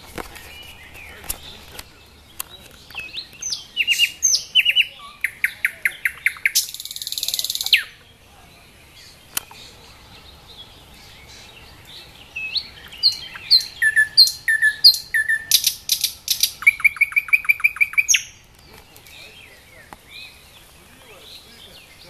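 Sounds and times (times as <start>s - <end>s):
nightingale singing: 0.0s - 22.0s.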